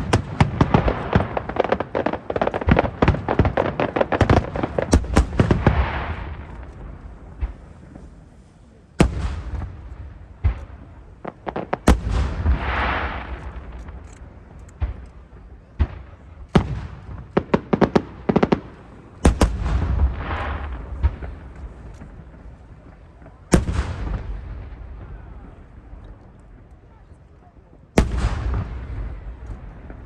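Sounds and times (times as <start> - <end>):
crackle of sparkling fireworks: 0.0 - 30.0.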